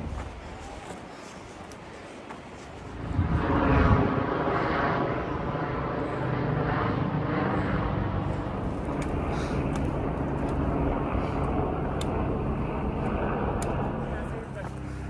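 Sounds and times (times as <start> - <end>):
helicopter engine and rotor: 2.8 - 15.0.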